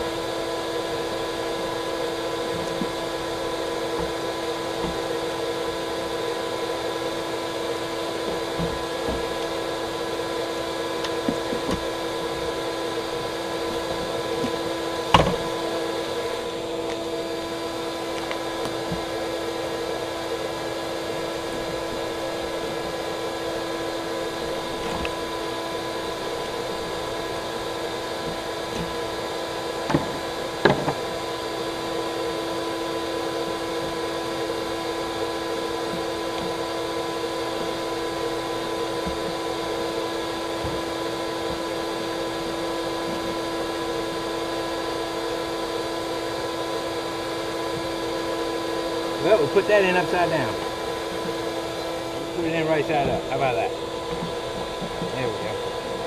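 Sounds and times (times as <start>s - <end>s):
small electric motor humming: 0.0s - 56.0s.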